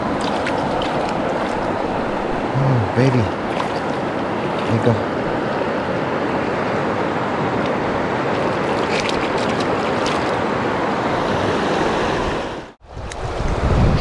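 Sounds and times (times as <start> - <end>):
river water rushing: 0.0 - 12.8.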